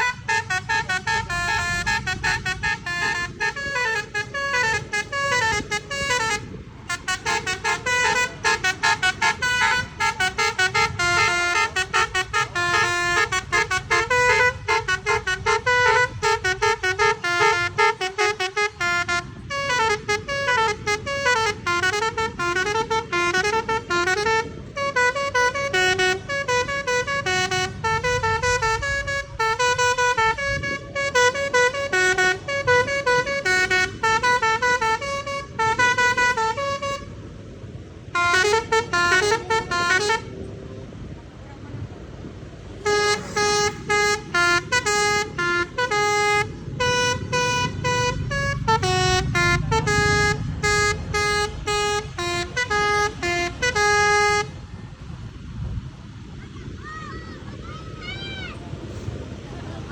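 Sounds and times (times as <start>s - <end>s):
multi-tone bus horn melody: 0.0s - 56.8s.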